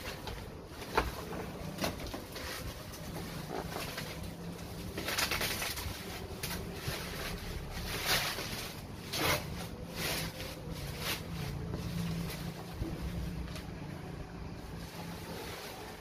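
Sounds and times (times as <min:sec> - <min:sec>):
packaging rustling: 0:00.0 - 0:13.8
steady low hum: 0:00.0 - 0:16.0.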